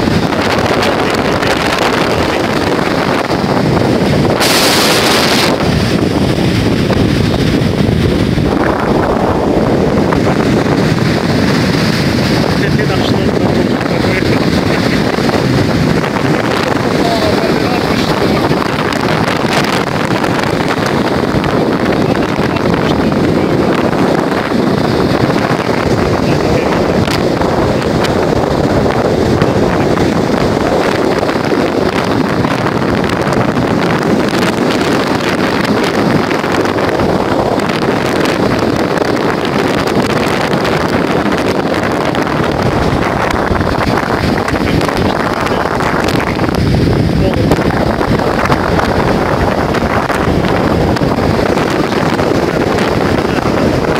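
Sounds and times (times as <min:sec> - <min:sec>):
surf breaking on shore: 0:00.0 - 0:53.9
wind buffeting microphone: 0:00.0 - 0:53.9.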